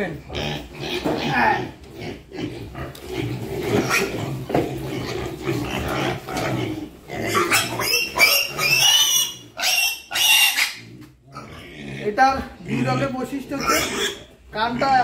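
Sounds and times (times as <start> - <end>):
pig grunting: 0.0 - 15.0
pig squealing loudly: 0.3 - 15.0.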